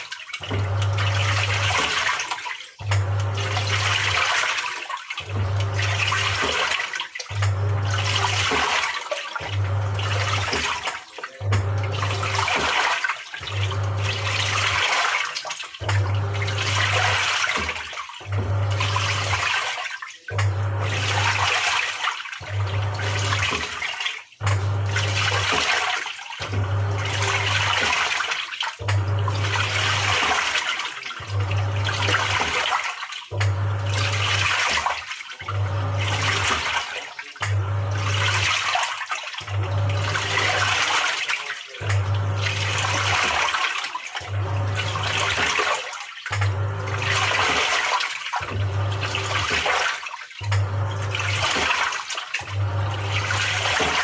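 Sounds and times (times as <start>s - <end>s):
washing machine motor humming: 0.0s - 54.0s
water swishing in washing machine: 0.0s - 54.0s.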